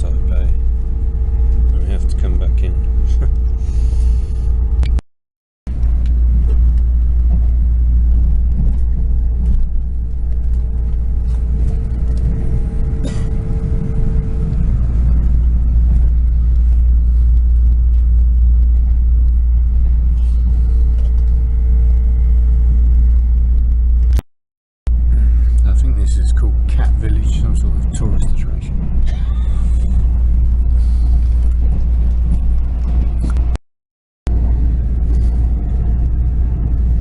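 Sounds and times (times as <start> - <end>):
faint hum: 0.0 - 5.0, 5.7 - 24.2, 24.9 - 33.6
low rumble of moving train: 0.0 - 5.0, 5.7 - 24.2, 24.9 - 33.6, 34.3 - 37.0.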